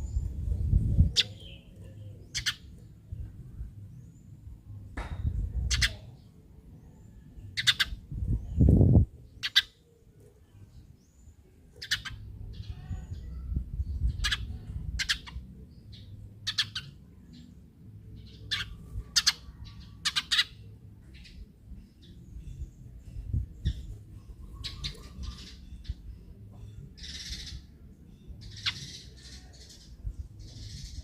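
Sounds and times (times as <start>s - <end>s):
sparrow chirping: 0.0s - 4.5s, 5.2s - 31.0s.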